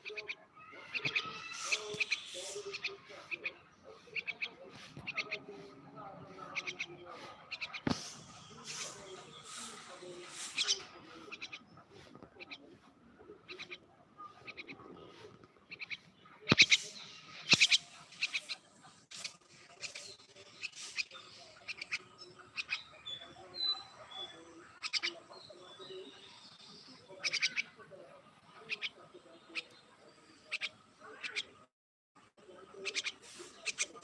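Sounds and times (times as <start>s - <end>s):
fledgling bird chirps: 0.0s - 31.7s, 32.7s - 34.0s.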